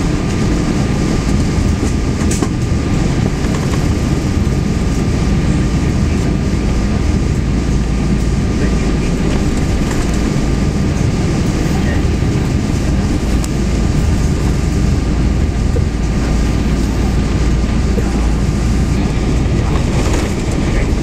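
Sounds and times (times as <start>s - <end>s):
low engine and wheel rumble: 0.0s - 21.0s.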